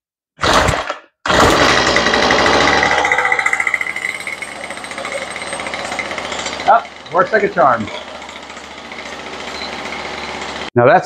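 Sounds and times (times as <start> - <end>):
string trimmer engine starting: 0.4 - 10.7.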